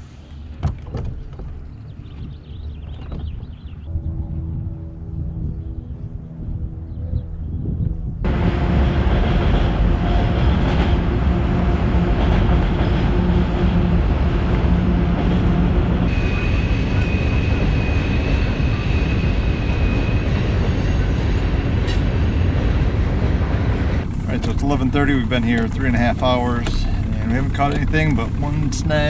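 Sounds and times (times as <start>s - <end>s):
boat engine drone: 0.0s - 29.0s
rushing wind: 0.0s - 29.0s
high whine: 1.7s - 29.0s.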